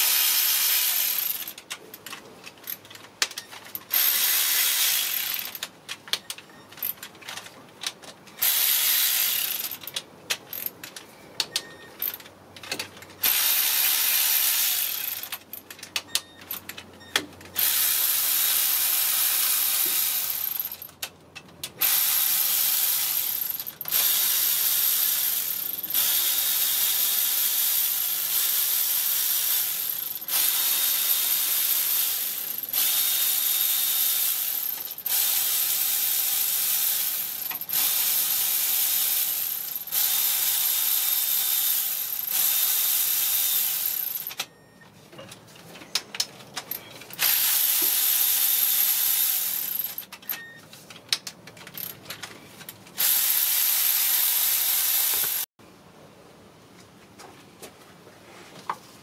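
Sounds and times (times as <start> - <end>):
power ratchet spinning bolts: 0.0 - 7.1, 8.4 - 10.8, 12.0 - 12.3, 13.2 - 16.8, 17.5 - 21.1, 21.7 - 44.5, 46.6 - 50.4, 51.6 - 55.5.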